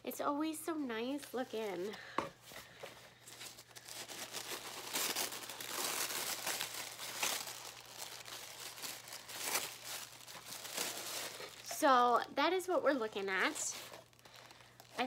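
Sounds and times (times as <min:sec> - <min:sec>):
tissue paper crinkling: 0:01.2 - 0:12.0, 0:12.9 - 0:15.0.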